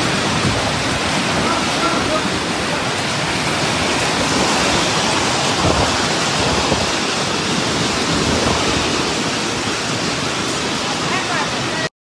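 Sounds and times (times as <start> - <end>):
heavy rain and hail on pavement: 0.0 - 11.9.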